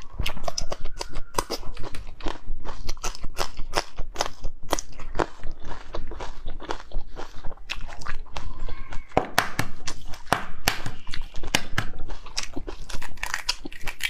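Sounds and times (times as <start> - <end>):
chewing soft eggs: 0.0 - 14.0.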